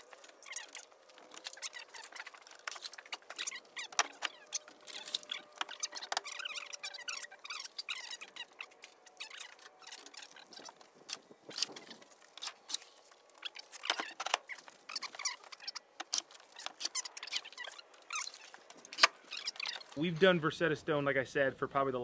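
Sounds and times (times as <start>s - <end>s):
stone panels clicking and scraping: 0.0s - 20.2s.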